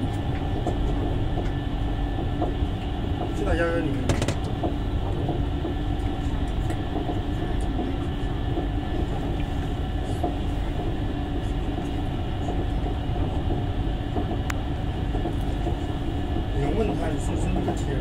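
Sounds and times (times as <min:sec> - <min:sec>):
train cabin rumble: 0:00.0 - 0:18.0.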